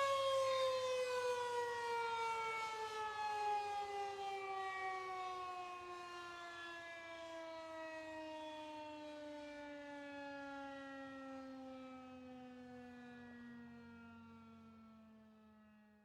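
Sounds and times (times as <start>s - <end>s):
air raid siren winding down: 0.0s - 15.2s.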